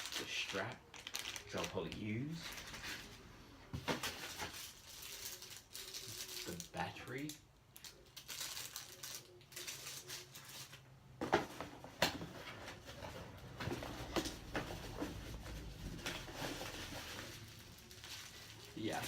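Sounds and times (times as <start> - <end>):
packaging rustling: 0.0 - 3.2, 3.8 - 19.0.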